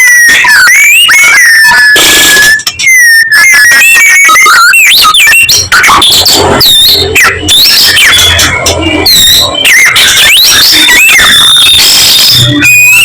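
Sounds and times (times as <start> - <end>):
bird whistling and chattering song: 0.0 - 13.0.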